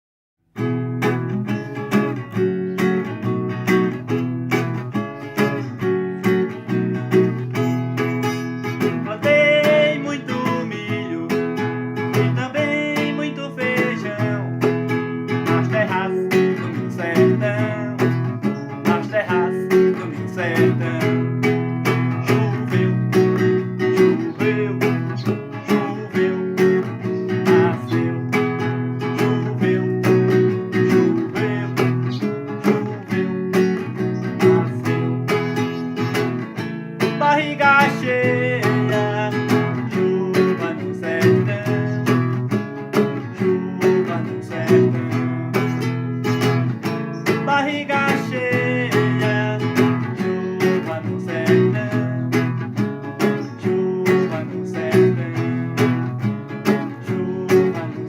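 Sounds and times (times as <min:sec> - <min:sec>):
acoustic guitar music: 0:00.4 - 0:58.0.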